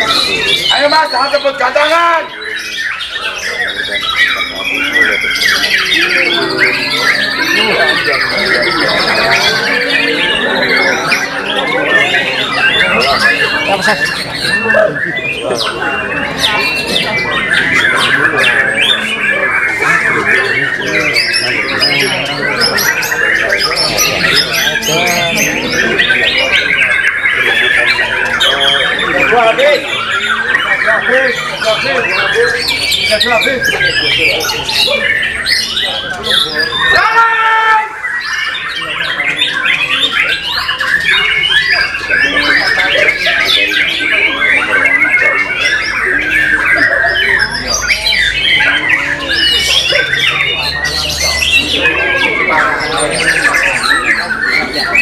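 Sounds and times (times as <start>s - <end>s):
bird singing loud varied song: 0.0s - 37.0s, 37.9s - 55.0s.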